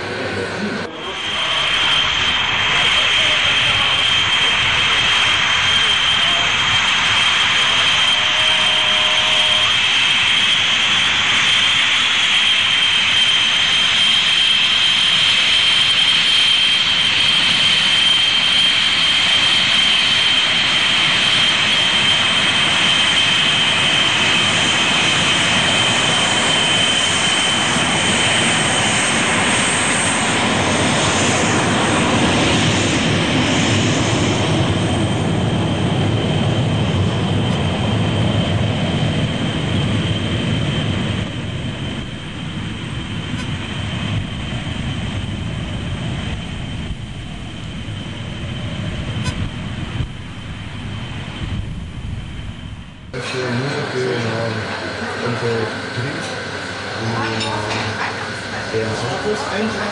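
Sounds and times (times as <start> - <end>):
deep jet rumble: 0.0 - 59.9
jet engine high whine: 0.0 - 59.9.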